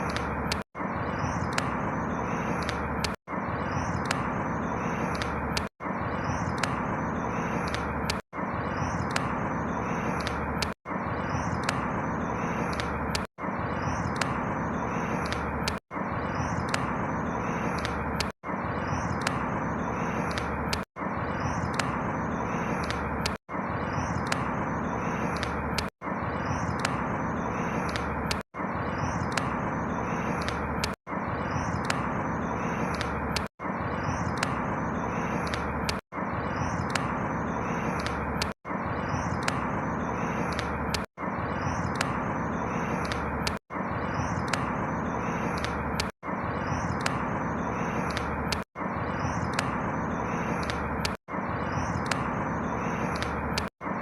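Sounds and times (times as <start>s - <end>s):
faint high bird chirps: 0.0s - 54.0s
steady outdoor noise: 0.0s - 54.0s.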